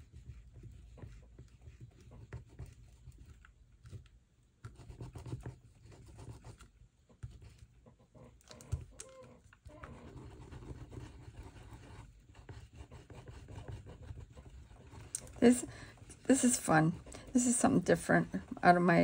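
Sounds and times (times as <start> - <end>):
paint stick scraping stencil: 0.0 - 7.8, 9.7 - 19.0.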